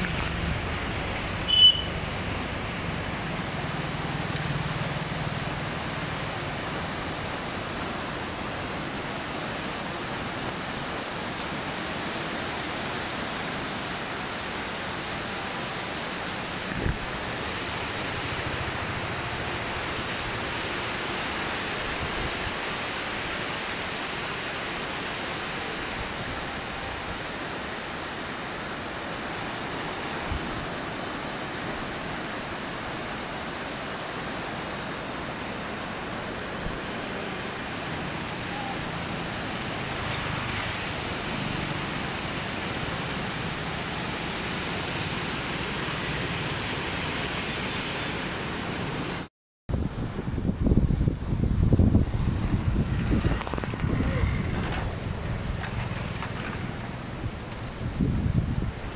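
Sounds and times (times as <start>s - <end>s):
river rushing: 0.0s - 58.9s.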